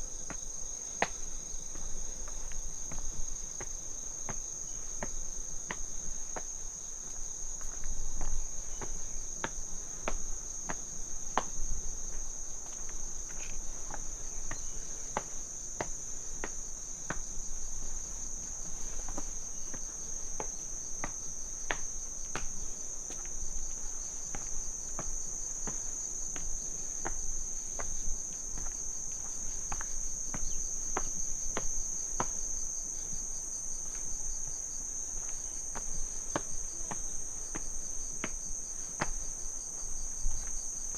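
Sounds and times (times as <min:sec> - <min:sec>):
faint pulsing insect call: 0:00.0 - 0:40.9
footsteps on path: 0:00.2 - 0:40.9.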